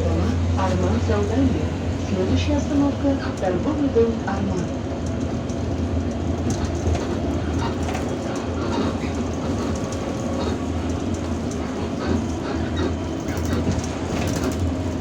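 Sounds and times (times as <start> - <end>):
bodywork rattles and clicks: 0.0 - 15.0
bus engine and road drone: 0.0 - 15.0.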